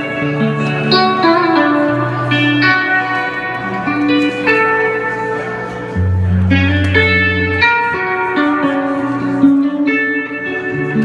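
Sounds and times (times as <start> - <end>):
electric guitar melodic run: 0.0 - 11.0.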